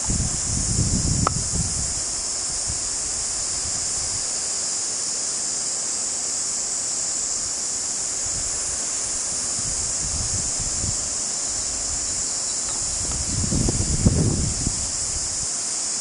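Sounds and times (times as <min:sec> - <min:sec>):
insects singing: 0:00.0 - 0:16.0.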